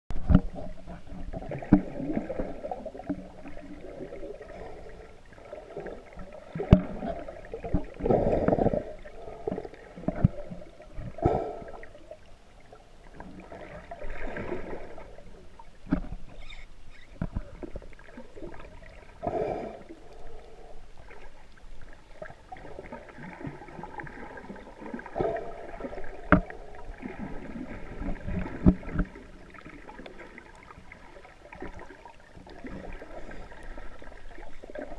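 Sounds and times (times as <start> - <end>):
muffled underwater gurgling: 0.1 - 21.2, 22.0 - 34.9.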